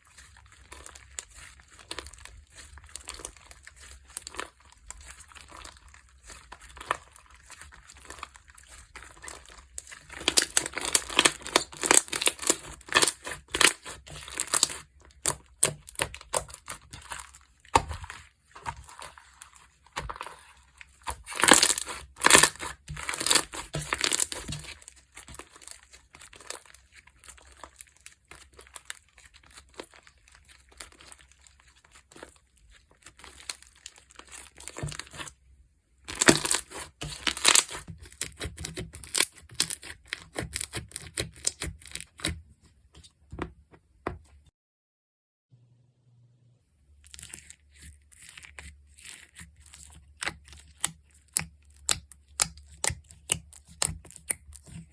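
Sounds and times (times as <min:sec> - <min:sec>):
slime squished by hand: 0:00.0 - 0:35.4, 0:36.0 - 0:42.4, 0:47.0 - 0:54.9.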